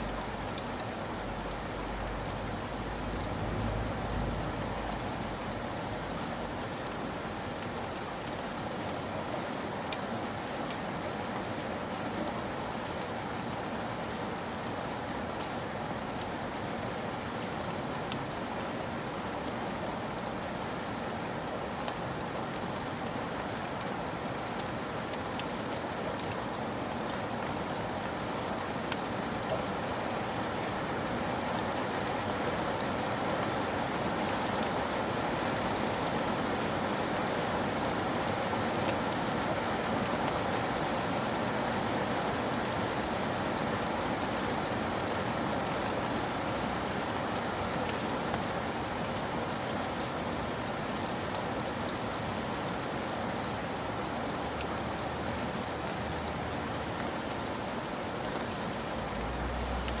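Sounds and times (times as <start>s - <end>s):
steady rain pattering: 0.0s - 60.0s.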